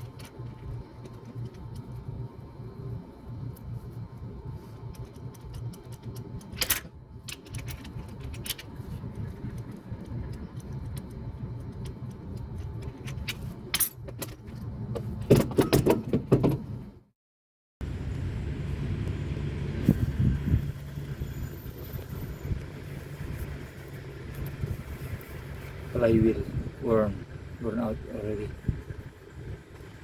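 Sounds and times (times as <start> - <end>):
steady low hum: 0.0 - 15.2, 17.8 - 30.0.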